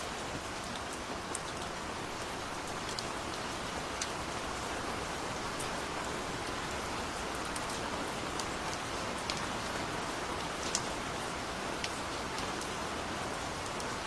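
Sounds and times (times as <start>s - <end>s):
gentle rain falling: 0.0s - 14.0s.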